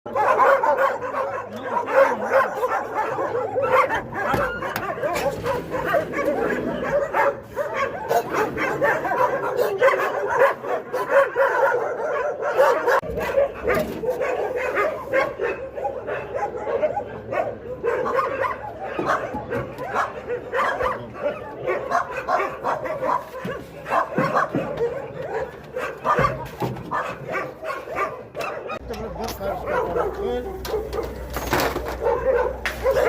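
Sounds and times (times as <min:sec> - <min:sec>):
dogs barking and yelping: 0:00.1 - 0:33.0.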